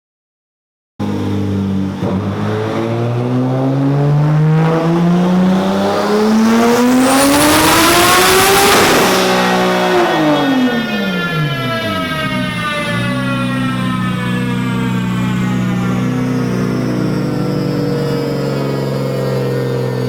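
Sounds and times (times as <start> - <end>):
car engine revving at full throttle: 1.0 - 20.0.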